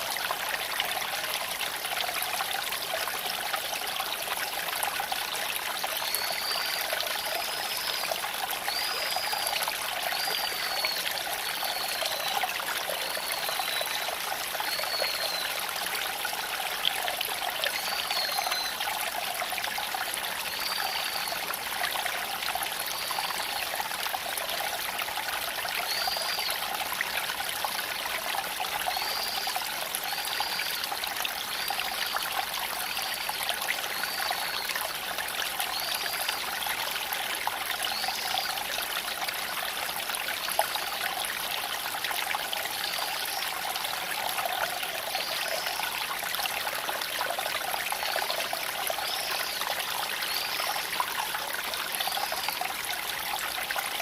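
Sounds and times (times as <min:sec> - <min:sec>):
creek water flowing over stones: 0:00.0 - 0:54.0.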